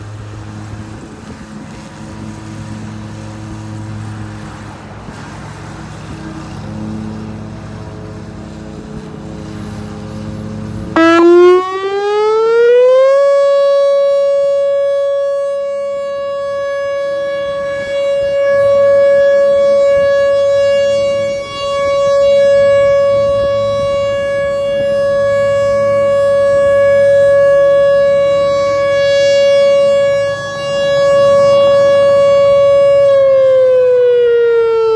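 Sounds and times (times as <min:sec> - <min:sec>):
outdoor warning siren: 0:00.0 - 0:34.9.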